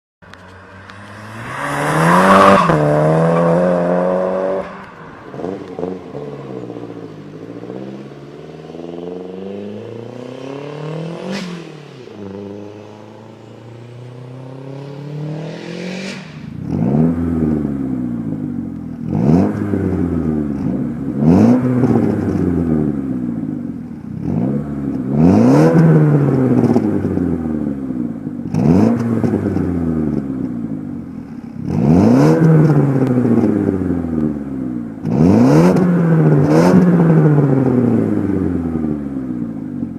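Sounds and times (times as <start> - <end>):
car exhaust revving: 0.2 - 13.3, 14.1 - 39.9.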